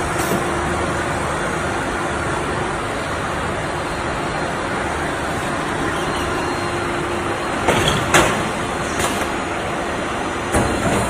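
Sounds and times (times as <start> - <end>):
production line mechanical din: 0.0 - 11.0.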